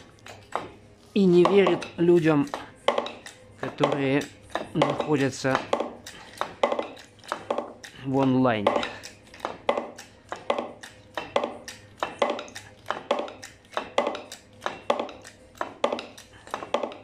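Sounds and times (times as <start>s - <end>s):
hammer tapping on steel: 0.3s - 17.0s.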